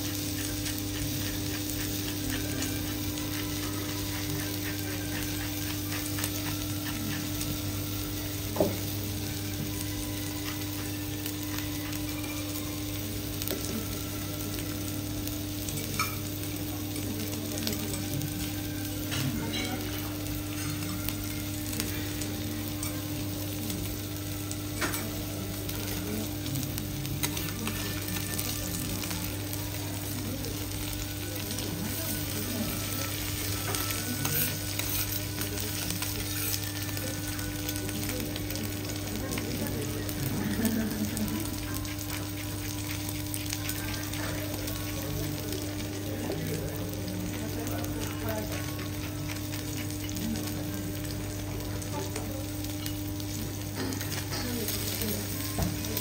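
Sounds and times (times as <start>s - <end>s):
meat sizzling on a griddle: 0.0s - 56.0s.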